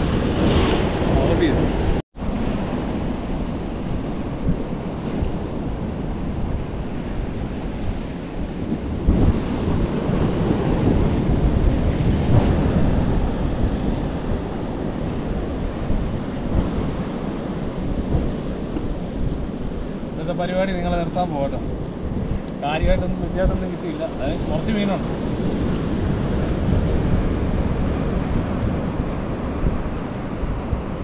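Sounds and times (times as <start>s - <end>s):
waves breaking against rocks: 0.0s - 31.0s
wind buffeting microphone: 0.0s - 31.0s.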